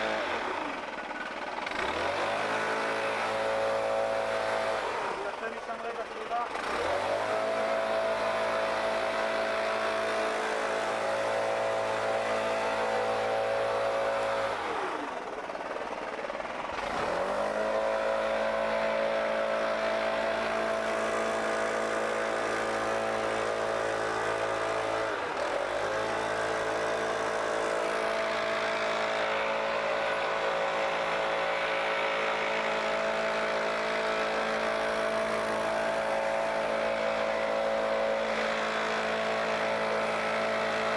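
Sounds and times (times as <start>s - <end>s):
leaf blower engine running: 0.0s - 40.9s.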